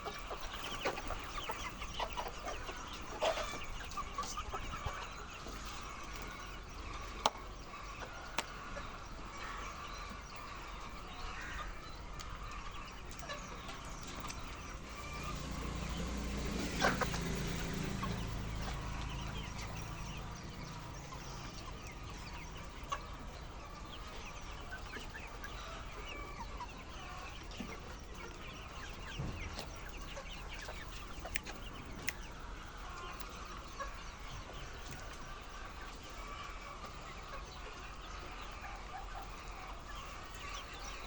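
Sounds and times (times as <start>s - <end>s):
chickens clucking: 0.0s - 41.0s.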